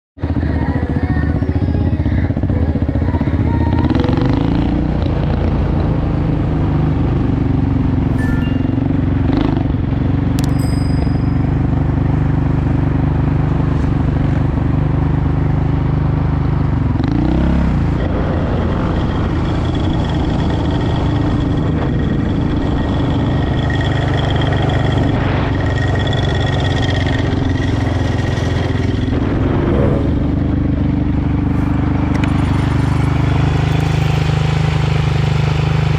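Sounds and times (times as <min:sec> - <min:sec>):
atv engine running: 0:00.2 - 0:35.9.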